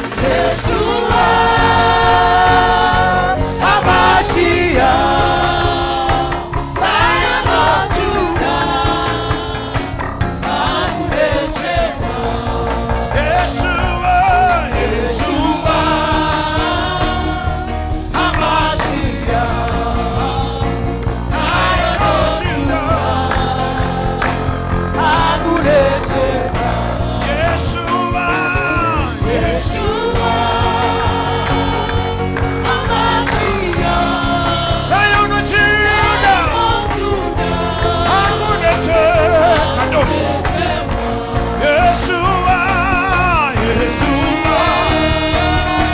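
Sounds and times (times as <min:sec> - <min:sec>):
band playing gospel music: 0:00.0 - 0:45.9
person singing: 0:00.0 - 0:45.9.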